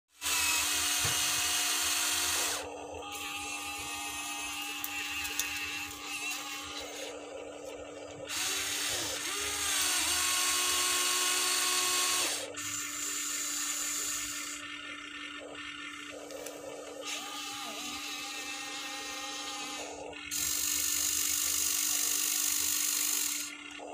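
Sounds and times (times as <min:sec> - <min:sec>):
toy excavator motors whirring: 0:00.1 - 0:23.9
steady hum: 0:00.3 - 0:23.9.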